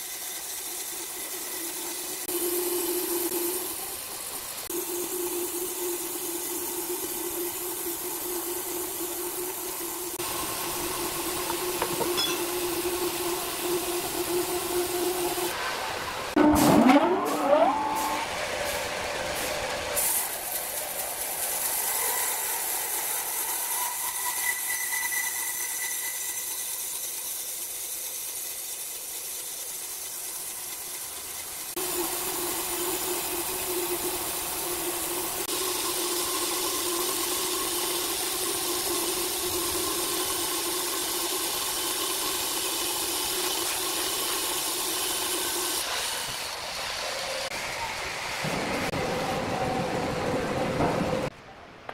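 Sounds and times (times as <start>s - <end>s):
sawmill machine hum: 0.0s - 51.3s.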